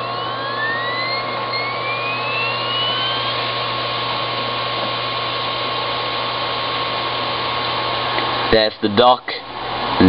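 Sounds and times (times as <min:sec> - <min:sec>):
thin rising whine: 0:00.0 - 0:08.4
laptop hum and hiss: 0:00.0 - 0:10.0.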